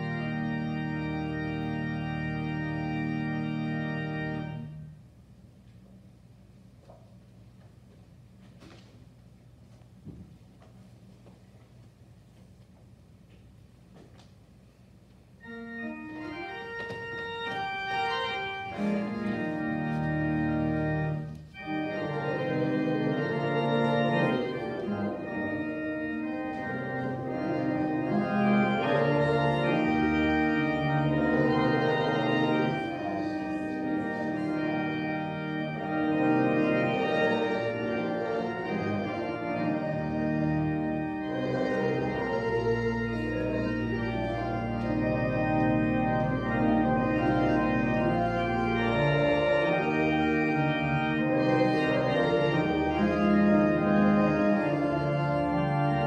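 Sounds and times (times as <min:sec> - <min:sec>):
church organ chords: 0:00.0 - 0:05.4, 0:15.3 - 0:56.0.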